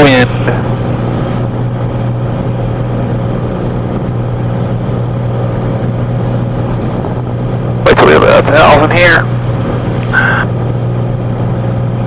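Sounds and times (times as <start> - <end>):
propeller plane engine humming: 0.0 - 12.0.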